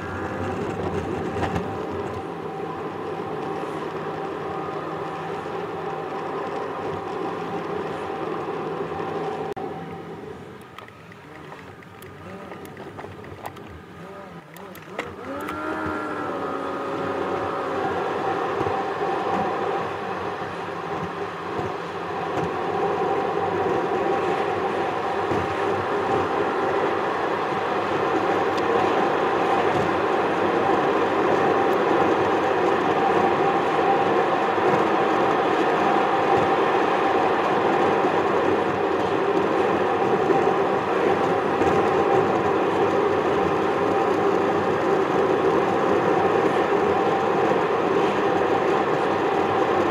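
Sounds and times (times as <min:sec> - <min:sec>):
car engine and tyre road noise: 0:00.0 - 0:49.9.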